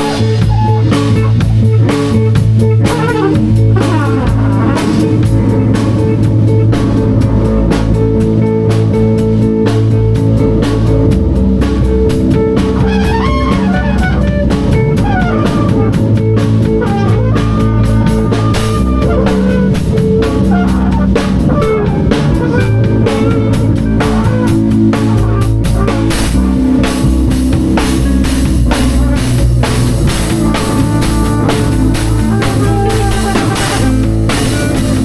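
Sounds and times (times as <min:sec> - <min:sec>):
bass line: 0:00.0 - 0:35.0
drum kit beat: 0:00.0 - 0:35.0
lead guitar melody: 0:00.0 - 0:35.0.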